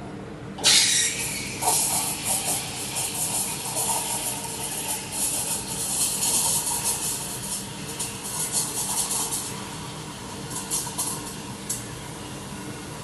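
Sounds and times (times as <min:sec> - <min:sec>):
steam wand hissing into milk: 0:00.6 - 0:11.6.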